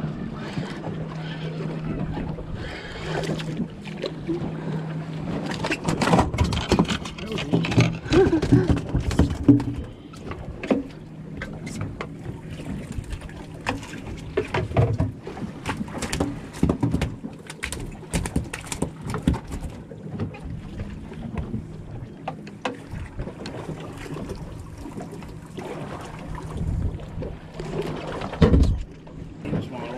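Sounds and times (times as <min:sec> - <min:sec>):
boat engine hum: 0:00.0 - 0:29.9
water against boat: 0:00.0 - 0:29.9
wind: 0:00.0 - 0:29.9.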